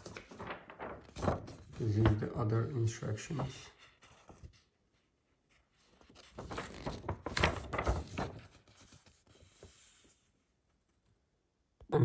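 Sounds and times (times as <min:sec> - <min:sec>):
paper rustling and crinkling: 0:00.0 - 0:10.4.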